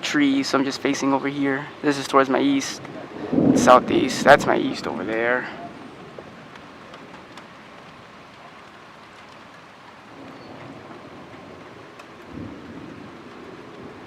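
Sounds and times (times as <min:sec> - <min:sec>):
rain hiss: 0:00.0 - 0:14.0
distant thunder rumbling: 0:02.4 - 0:14.0.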